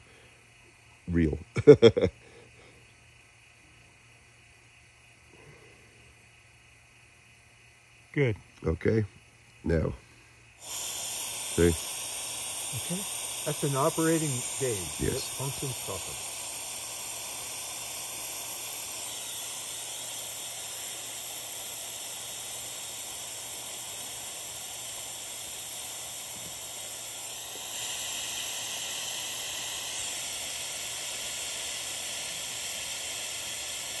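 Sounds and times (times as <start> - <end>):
air hissing in vacuum rig: 0.0 - 34.0.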